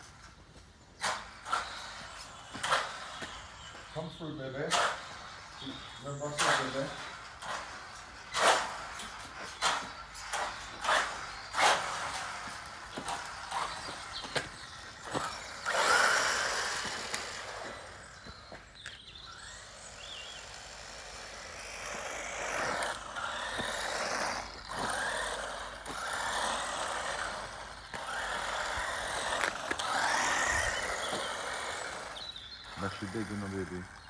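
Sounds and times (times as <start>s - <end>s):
toy car tyres scrabbling on dirt: 0.0s - 34.0s.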